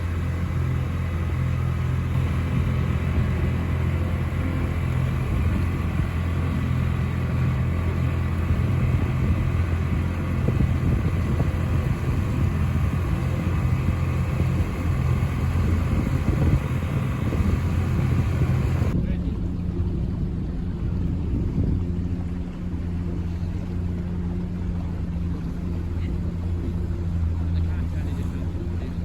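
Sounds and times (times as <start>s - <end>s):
motorboat engine drone: 0.0s - 29.0s.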